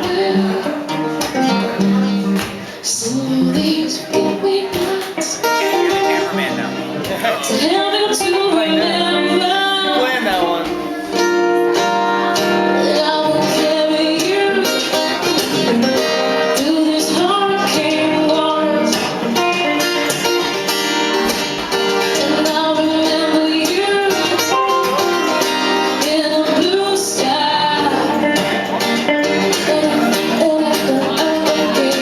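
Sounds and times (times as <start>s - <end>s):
person singing: 0.0s - 20.5s, 22.0s - 32.0s
acoustic guitar strumming: 0.0s - 32.0s.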